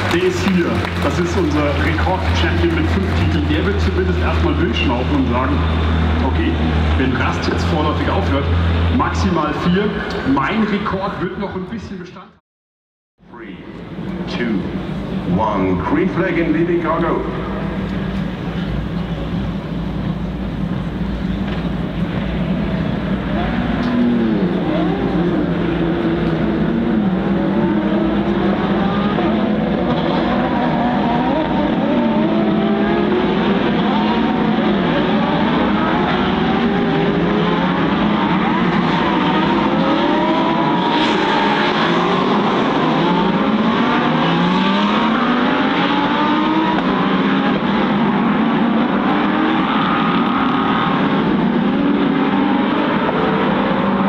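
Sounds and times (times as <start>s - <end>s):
race car engines accelerating: 0.0s - 12.3s, 13.4s - 54.0s.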